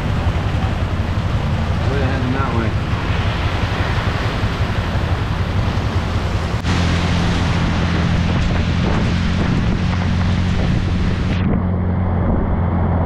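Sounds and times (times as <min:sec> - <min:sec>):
heavy rain: 0:00.0 - 0:12.7
low hum of traffic: 0:00.0 - 0:13.0.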